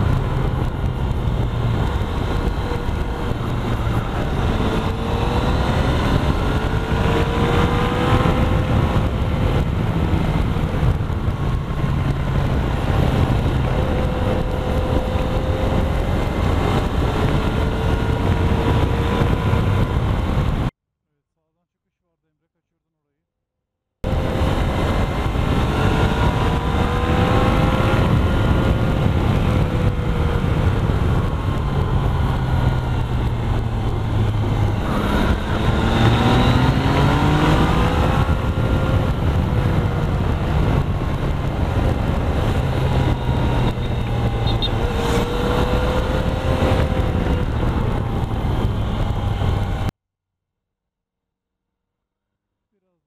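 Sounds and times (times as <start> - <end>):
motorcycle engine revving: 0.0 - 20.8, 24.0 - 49.9
wind and road noise: 0.0 - 20.8, 24.0 - 50.0.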